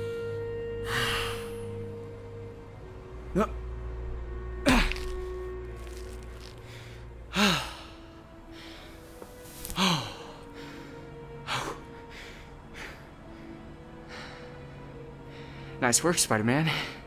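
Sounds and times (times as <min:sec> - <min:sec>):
music with low tones: 0:00.0 - 0:17.0.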